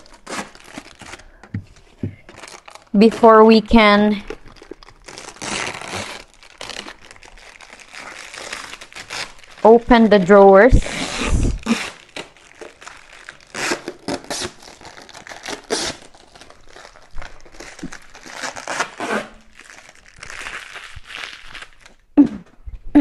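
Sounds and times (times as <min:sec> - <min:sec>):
plastic film crinkling: 0:00.0 - 0:22.0
plastic film tearing: 0:00.0 - 0:22.0.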